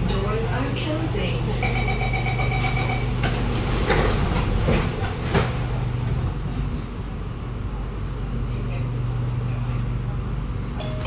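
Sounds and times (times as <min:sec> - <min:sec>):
low train hum: 0:00.0 - 0:11.0.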